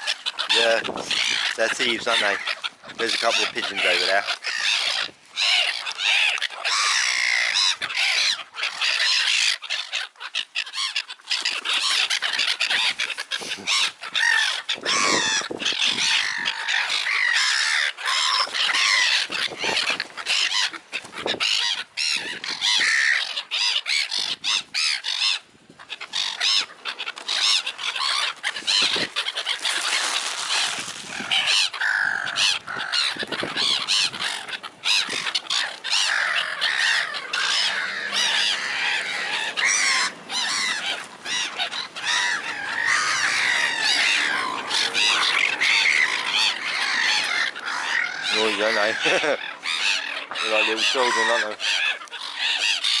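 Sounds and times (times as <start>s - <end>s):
flock of birds calling: 0.0s - 53.0s.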